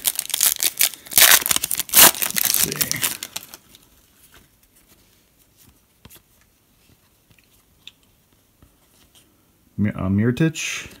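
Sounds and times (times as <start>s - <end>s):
cards rustling: 0.0s - 9.3s.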